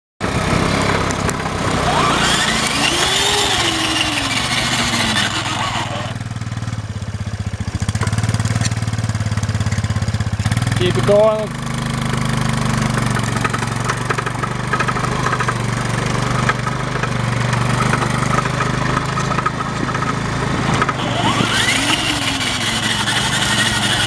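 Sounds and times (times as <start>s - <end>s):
atv engine running: 0.2s - 24.0s.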